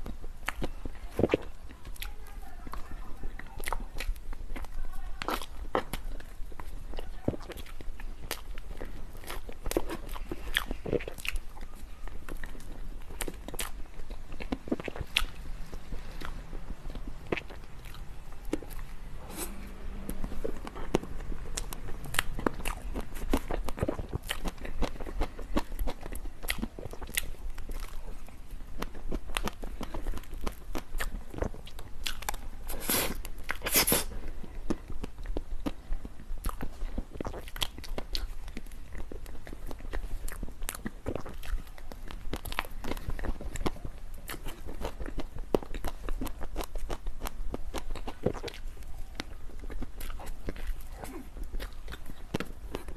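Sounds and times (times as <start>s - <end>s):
biting crunching and chewing: 0.0s - 52.9s.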